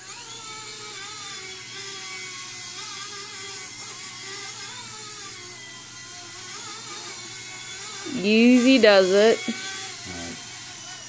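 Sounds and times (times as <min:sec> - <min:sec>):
rc helicopter motor whine: 0:00.0 - 0:11.0.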